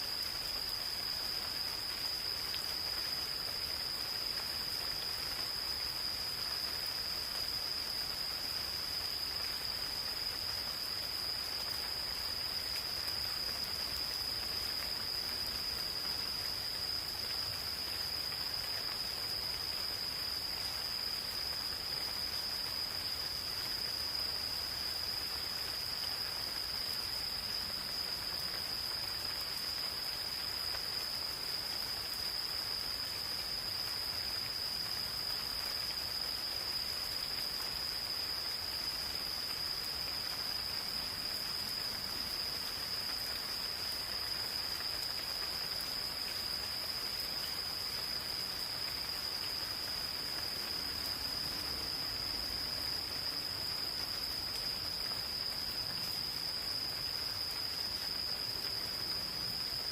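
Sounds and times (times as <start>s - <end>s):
gentle rain falling: 0.0s - 59.9s
insects trilling: 0.0s - 59.9s.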